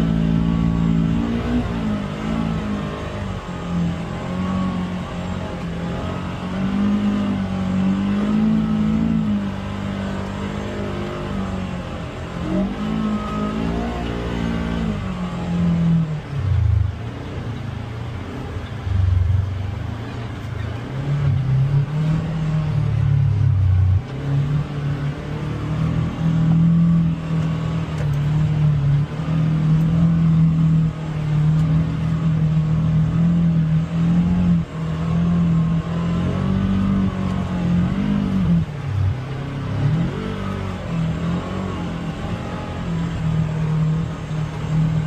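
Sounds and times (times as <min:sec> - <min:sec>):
utility vehicle engine revving: 0:00.0 - 0:45.0.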